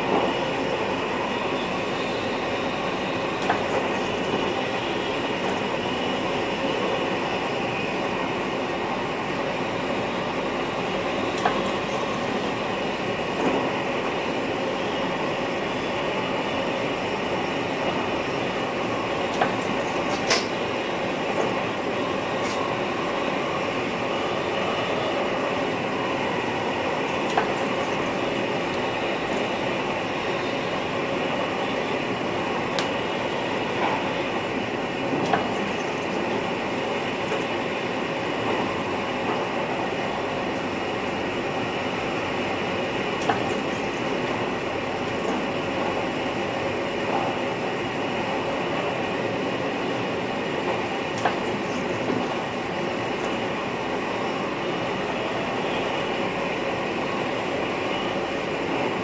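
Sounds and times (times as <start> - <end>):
electric train running: 0.0 - 59.0.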